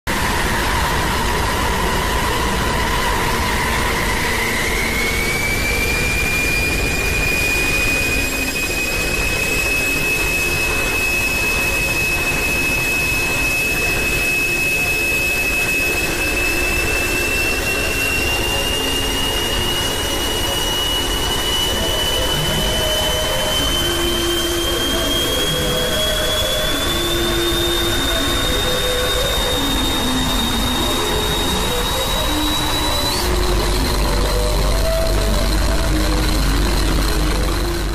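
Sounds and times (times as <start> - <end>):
high whistling tone: 0.1 - 37.9
low tone: 0.1 - 37.9.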